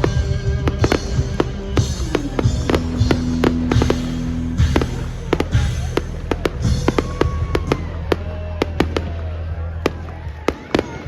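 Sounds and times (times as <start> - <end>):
fireworks bangs and crackles: 0.0 - 11.0
fireworks whistling: 0.0 - 11.0
loud background music: 0.0 - 11.0.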